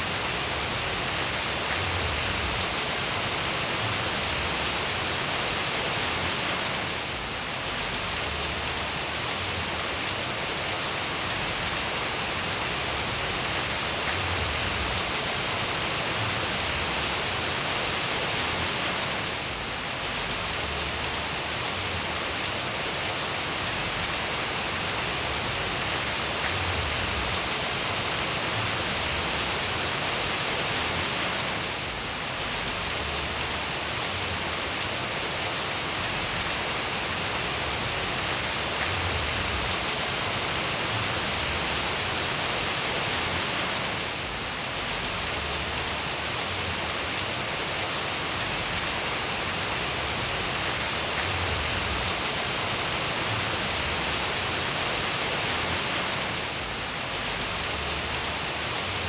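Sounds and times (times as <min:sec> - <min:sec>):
dense rain hissing: 0:00.0 - 0:59.0.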